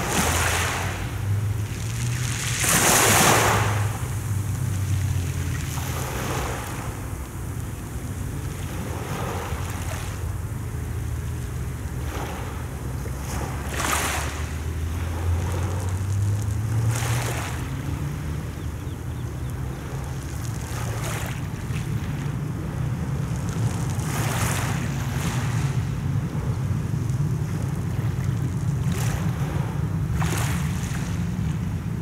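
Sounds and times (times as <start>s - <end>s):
waves washing over pebbles: 0.0s - 32.0s
wind rumble on microphone: 0.0s - 32.0s.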